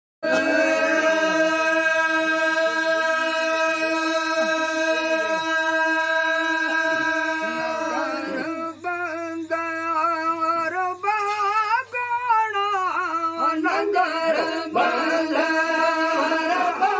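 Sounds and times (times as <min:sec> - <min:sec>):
men singing unaccompanied: 0:00.2 - 0:16.9.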